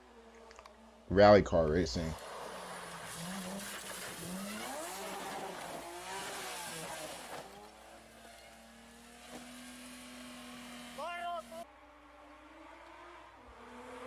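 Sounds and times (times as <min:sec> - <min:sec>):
rally car engine revving: 0:02.0 - 0:14.0.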